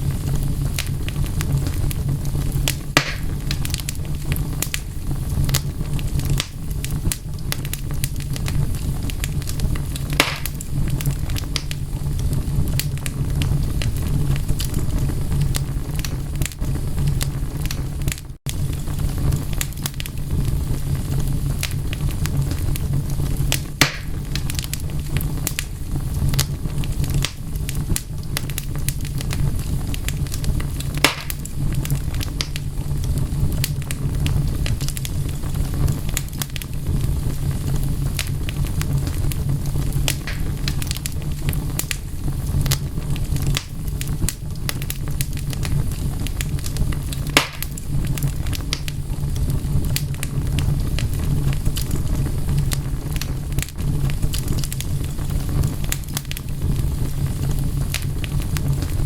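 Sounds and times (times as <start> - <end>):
low fire rumble: 0.0 - 59.0
wood fire popping and snapping: 0.0 - 59.0.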